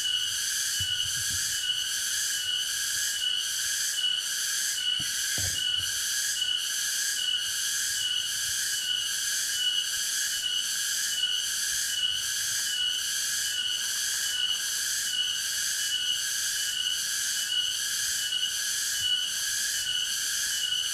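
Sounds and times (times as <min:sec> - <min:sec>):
insect pulsing buzz: 0:00.0 - 0:20.9.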